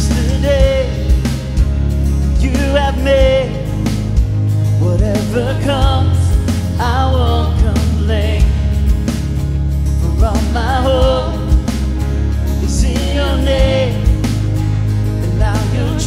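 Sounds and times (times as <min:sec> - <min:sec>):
lead vocal singing: 0:00.0 - 0:09.2, 0:09.9 - 0:16.0
steady drum beat: 0:00.0 - 0:16.0
sustained bass: 0:00.0 - 0:16.0.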